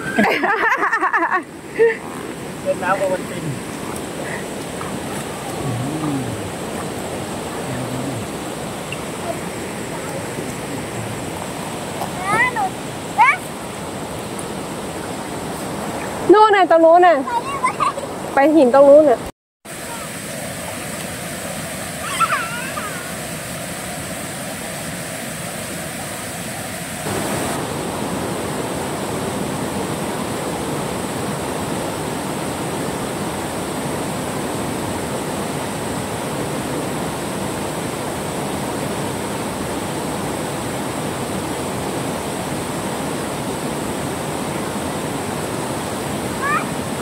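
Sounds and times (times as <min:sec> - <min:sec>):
river flowing over rocks: 0:00.0 - 0:16.4, 0:19.7 - 0:47.0.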